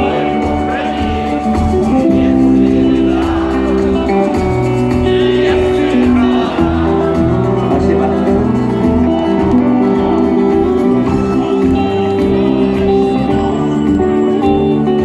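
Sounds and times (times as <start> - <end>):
bass line: 0.0 - 15.0
rock guitar held notes: 0.0 - 15.0.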